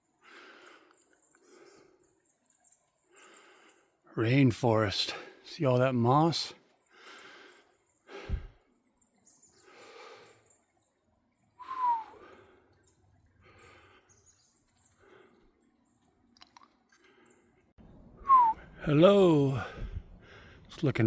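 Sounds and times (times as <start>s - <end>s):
hiker breathing: 0.0s - 4.2s, 6.7s - 18.8s, 19.4s - 20.8s.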